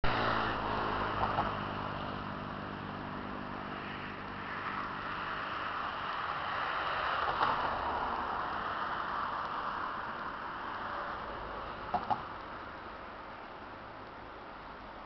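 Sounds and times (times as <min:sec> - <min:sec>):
vehicle engine passing by: 0:00.0 - 0:12.3
distant traffic: 0:00.0 - 0:15.0
wind: 0:00.0 - 0:15.0.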